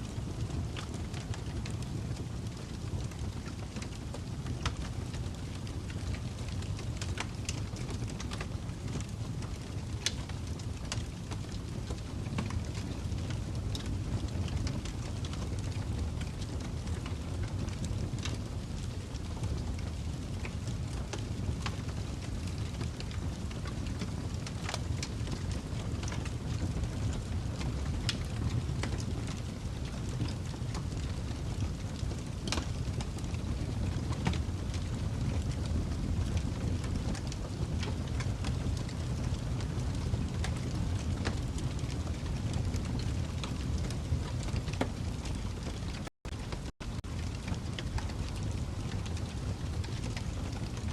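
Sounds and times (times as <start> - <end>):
fire crackling and popping: 0.0 - 50.9.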